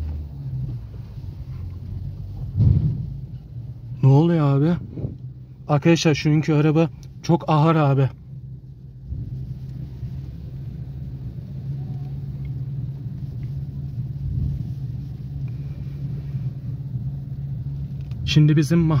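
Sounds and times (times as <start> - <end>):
road rumble inside car: 0.0 - 19.0
tow truck drone: 0.0 - 19.0.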